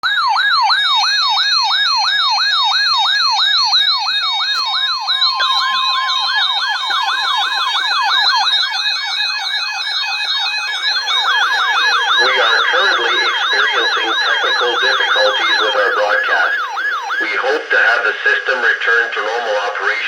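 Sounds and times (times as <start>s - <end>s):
electronic siren wailing: 0.0s - 20.0s
second siren: 0.0s - 20.0s
steady siren tone: 0.0s - 20.0s.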